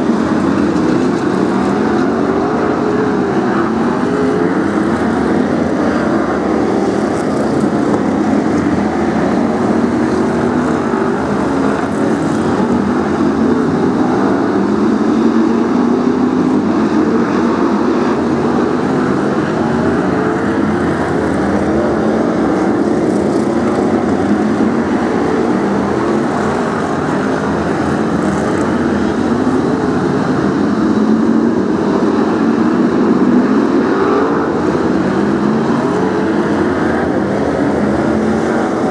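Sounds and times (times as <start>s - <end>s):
race car engines roaring: 0.0s - 38.9s.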